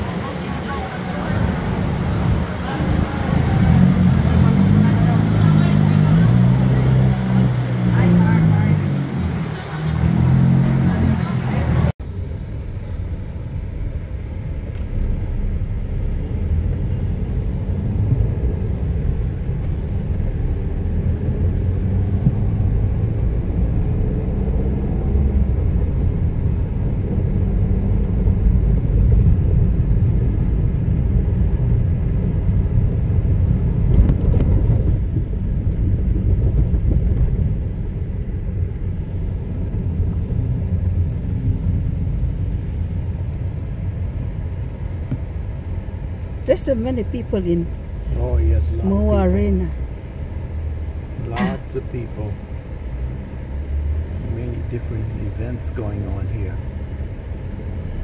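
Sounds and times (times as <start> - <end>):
road noise inside cabin: 0.0 - 58.0
vehicle engine rumble: 0.0 - 58.0.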